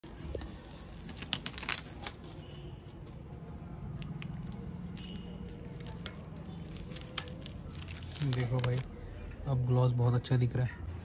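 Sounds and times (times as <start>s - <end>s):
plastic film crackling: 0.0s - 8.9s.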